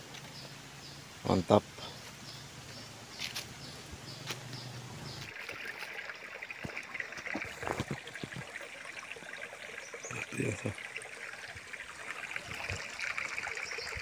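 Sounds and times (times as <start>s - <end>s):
stream trickling over stones: 0.0s - 14.0s.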